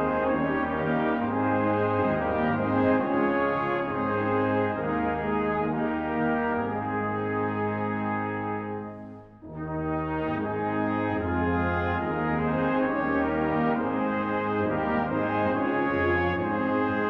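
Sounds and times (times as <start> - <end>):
brass ensemble sustained chords: 0.0 - 17.0.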